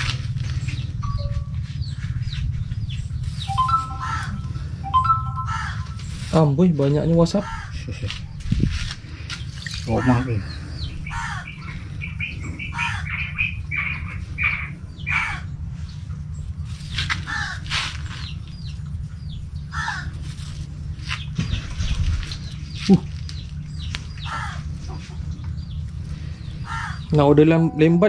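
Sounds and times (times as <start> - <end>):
birds calling: 0.0 - 28.0
low hum: 0.0 - 28.0.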